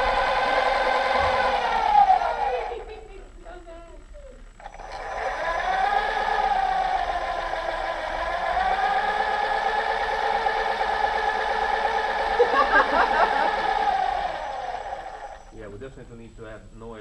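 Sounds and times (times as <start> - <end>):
electric motors whining: 0.0 - 15.7.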